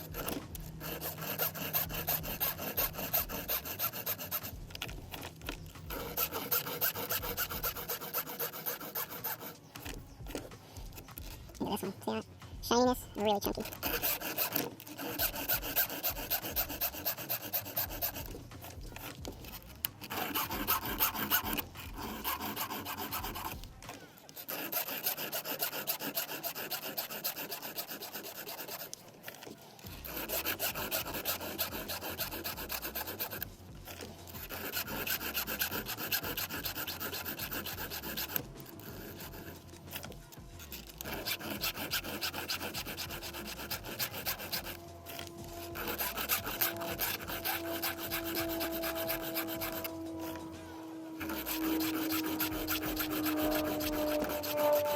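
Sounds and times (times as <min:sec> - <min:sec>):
file scraping chainsaw chain: 0:00.0 - 0:11.6, 0:13.6 - 0:54.9.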